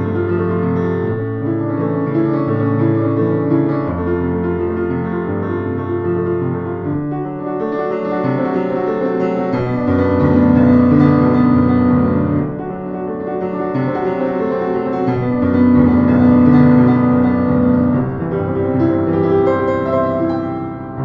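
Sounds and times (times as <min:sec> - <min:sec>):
piano chords: 0:00.0 - 0:21.0.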